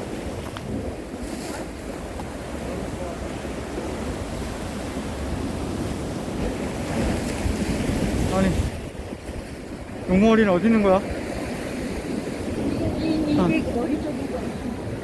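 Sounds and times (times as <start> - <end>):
waves on rocky shore: 0.0 - 15.0
wind buffeting microphone: 0.0 - 15.0.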